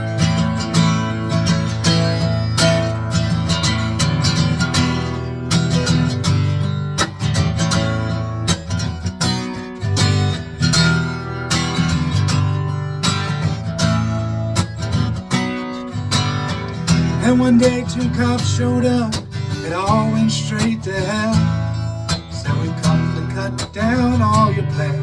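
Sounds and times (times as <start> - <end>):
acoustic guitar strummed: 0.0 - 25.0.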